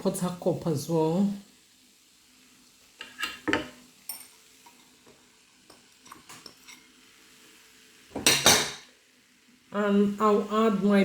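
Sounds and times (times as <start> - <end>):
utensil stirring in frying pan: 0.9 - 11.0.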